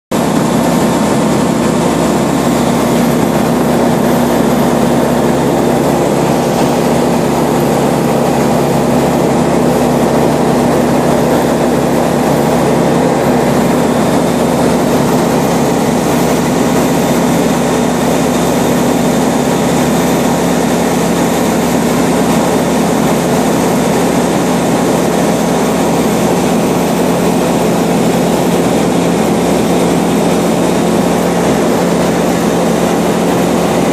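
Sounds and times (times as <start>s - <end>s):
light aircraft engine and propeller: 0.1s - 33.9s.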